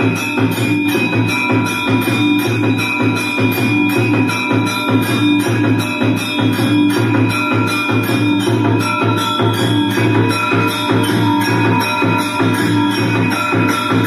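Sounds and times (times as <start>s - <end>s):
fast drum beat: 0.0s - 14.0s
held ringing tones: 0.0s - 14.0s
jingling bells: 0.0s - 14.0s.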